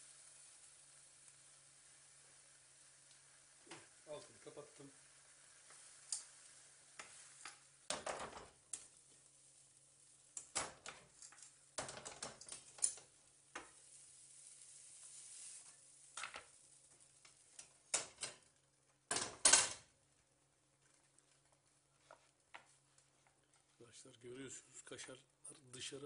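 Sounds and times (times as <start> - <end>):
faint sizzle: 0.0 - 26.0.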